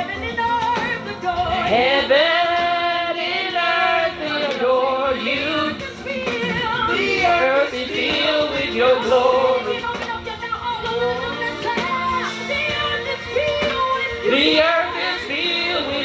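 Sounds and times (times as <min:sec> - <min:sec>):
person singing gospel song: 0:00.0 - 0:16.0.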